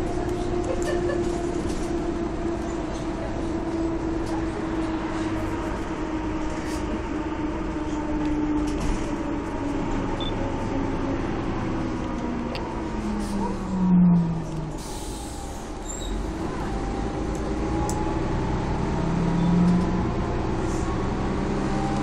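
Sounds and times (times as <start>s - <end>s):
bus drivetrain whine: 0.0s - 22.0s.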